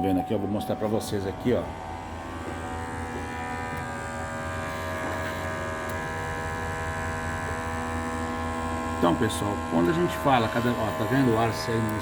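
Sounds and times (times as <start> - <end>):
electric pump motor humming: 0.0 - 12.0.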